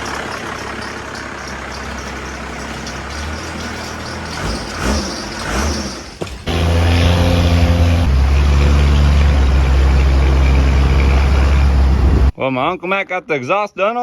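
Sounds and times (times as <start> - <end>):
diesel engine running loudly: 0.0 - 12.3.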